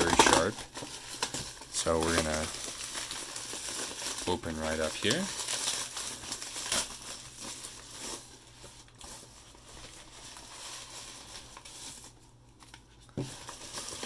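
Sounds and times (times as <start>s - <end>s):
plastic bag crinkling: 0.0s - 12.4s, 13.2s - 14.0s.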